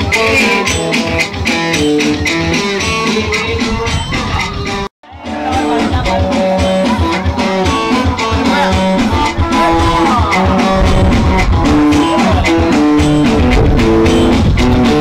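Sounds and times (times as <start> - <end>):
plucked guitar melody: 0.0 - 15.0
steady bass beat: 0.0 - 15.0.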